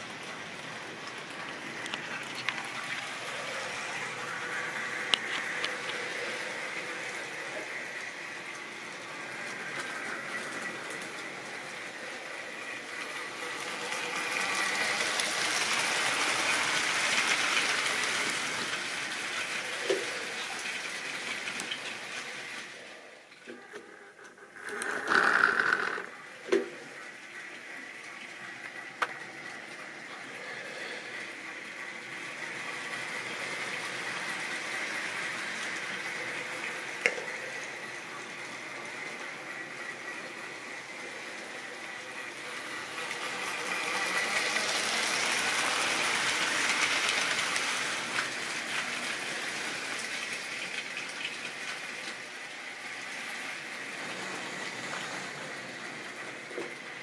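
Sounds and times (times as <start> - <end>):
model train motor whirring: 1.4 - 22.9, 23.5 - 28.0, 28.6 - 57.0.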